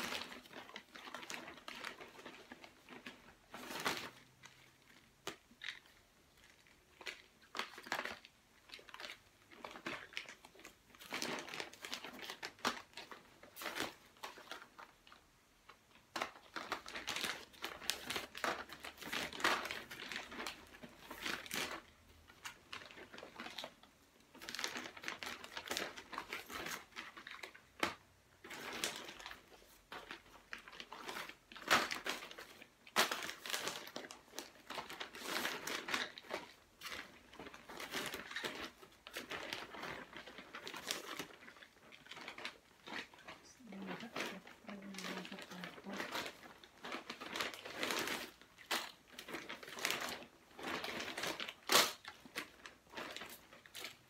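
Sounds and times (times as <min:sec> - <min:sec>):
plastic mailer bag crinkling: 0:00.0 - 0:54.0.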